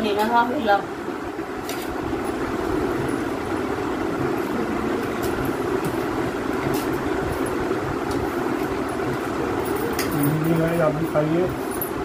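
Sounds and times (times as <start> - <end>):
mechanical whooshing hum: 0.0 - 12.0.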